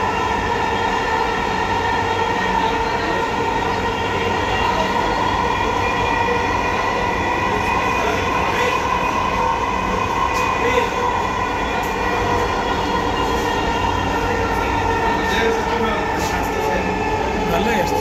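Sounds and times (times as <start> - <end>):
steady whining tones: 0.0 - 18.0
train motors and wheels running: 0.0 - 18.0.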